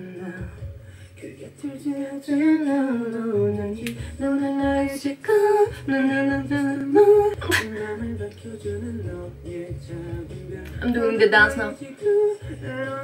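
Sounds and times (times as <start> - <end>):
woman singing: 1.6 - 13.0.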